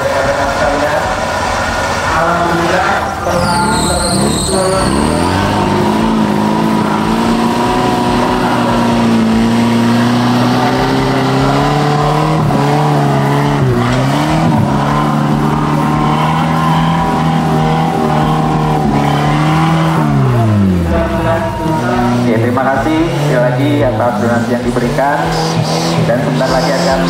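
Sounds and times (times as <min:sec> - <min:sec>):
engine revving under heavy load: 0:00.0 - 0:27.0.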